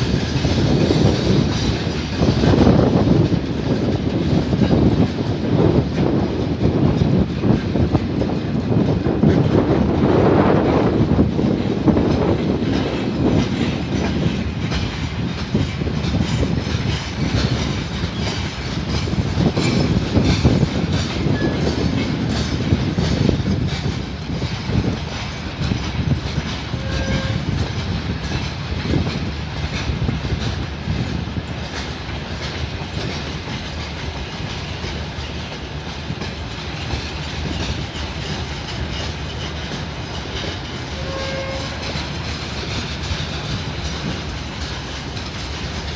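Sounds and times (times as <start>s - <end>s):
train wheels clattering over rail joints: 0.0s - 45.9s.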